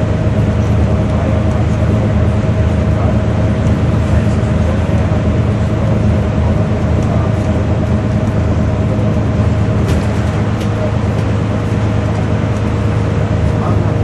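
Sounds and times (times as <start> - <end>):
bus diesel engine running: 0.0 - 14.0
road noise: 0.0 - 14.0.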